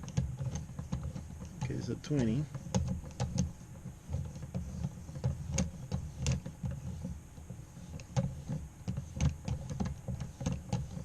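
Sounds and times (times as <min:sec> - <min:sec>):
low handling noise: 0:00.0 - 0:11.0.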